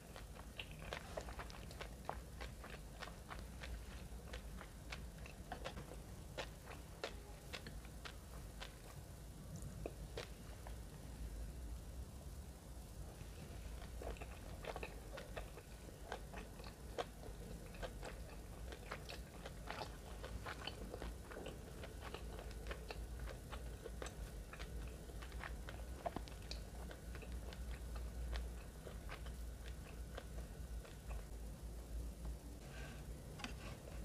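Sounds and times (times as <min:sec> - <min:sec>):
person chewing food: 0:00.0 - 0:10.8, 0:13.2 - 0:31.4
steady low hum: 0:00.0 - 0:34.0.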